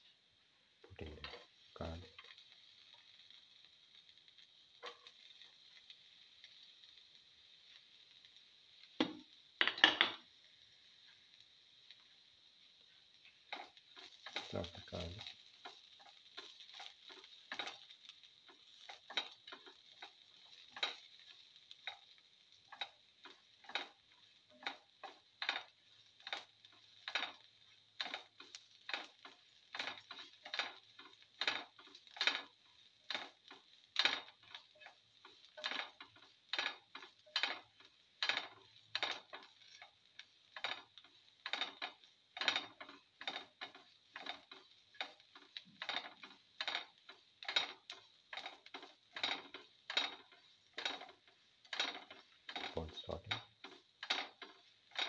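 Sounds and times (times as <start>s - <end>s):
faint sizzle: 0.0s - 55.0s
spatula scraping in pan: 1.2s - 9.4s, 10.2s - 55.0s.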